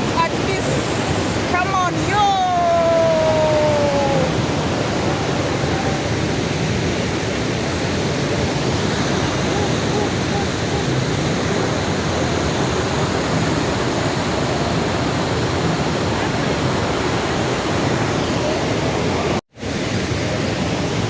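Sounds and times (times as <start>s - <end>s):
rapids rushing at a waterfall: 0.0s - 21.0s.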